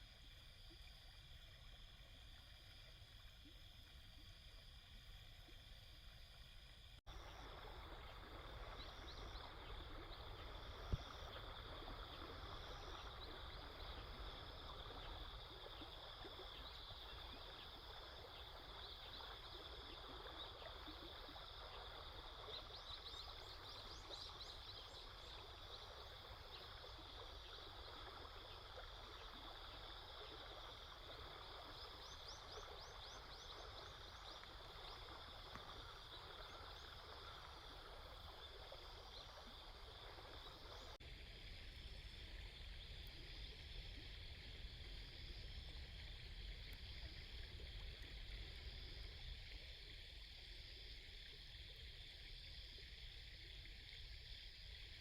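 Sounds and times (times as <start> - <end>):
insects chirring: 0.0 - 55.0
flowing water or wind rush: 7.1 - 55.0.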